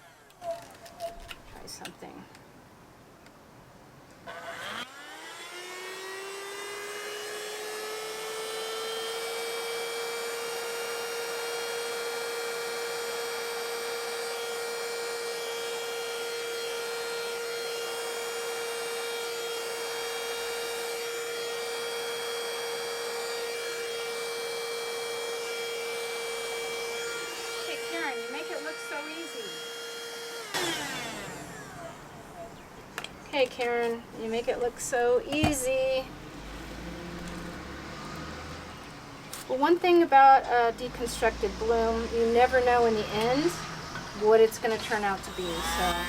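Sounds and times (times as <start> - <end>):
hair dryer running: 4.3 - 33.1, 34.9 - 39.2, 39.9 - 46.0.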